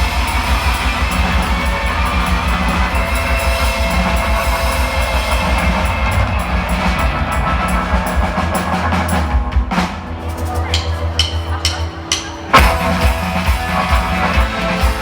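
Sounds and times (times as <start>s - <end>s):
cymbals keeping a beat: 0.0s - 15.0s
rock band playing live: 0.0s - 15.0s.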